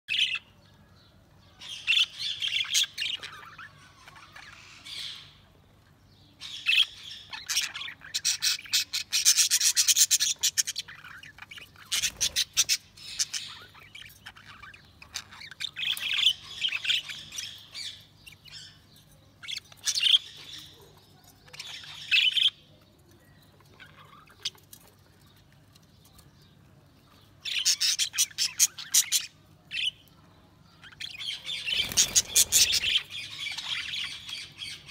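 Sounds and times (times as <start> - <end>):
budgies chirping and warbling: 0.1 - 34.9.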